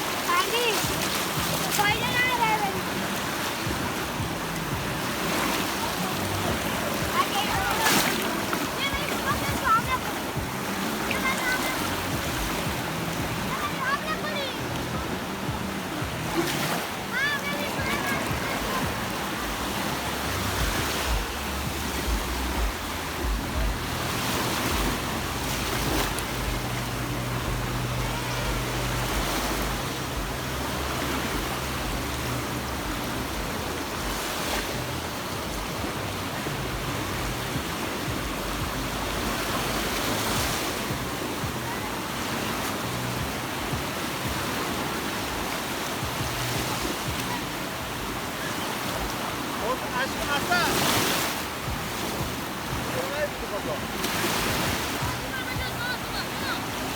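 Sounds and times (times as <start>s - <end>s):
waves breaking on beach: 0.0s - 56.9s.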